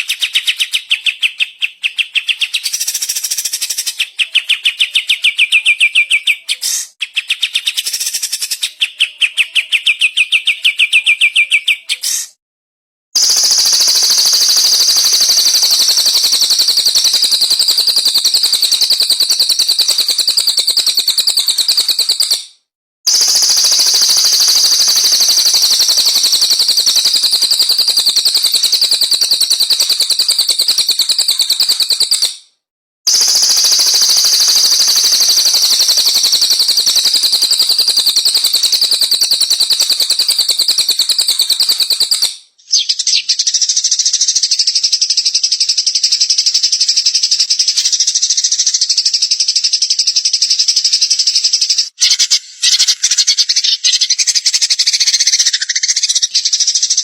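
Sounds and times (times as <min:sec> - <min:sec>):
songbird chattering song: 0:00.0 - 0:12.4, 0:13.2 - 0:22.4, 0:23.1 - 0:32.3, 0:33.1 - 0:57.0.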